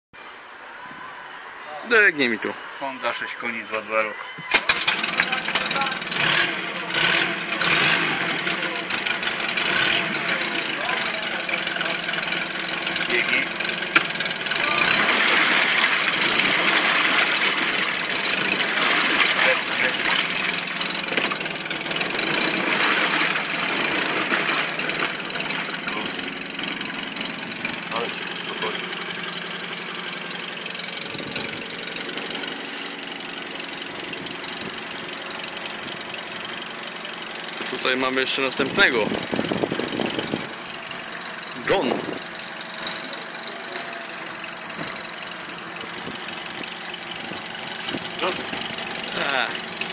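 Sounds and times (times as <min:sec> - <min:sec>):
outboard motor running: 0:03.1 - 0:49.9.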